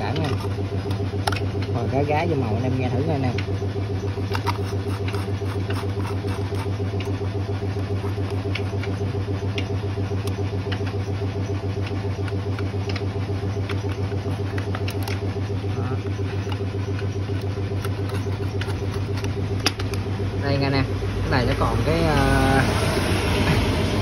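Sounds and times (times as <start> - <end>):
chainsaw engine idling: 0.0 - 24.0.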